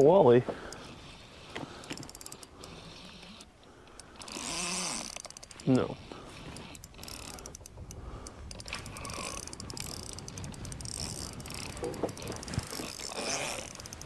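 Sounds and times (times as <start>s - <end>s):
fishing reel clicking: 0.0s - 14.0s.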